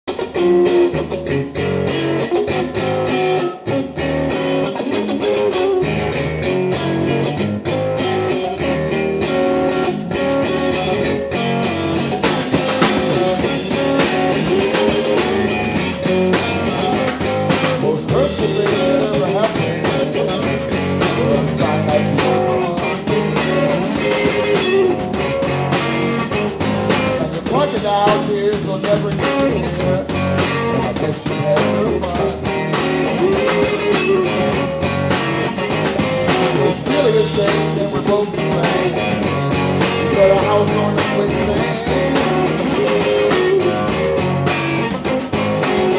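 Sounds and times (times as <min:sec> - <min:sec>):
drum kit and cymbals: 0:00.1 - 0:45.9
electric guitar blues groove: 0:00.1 - 0:45.9.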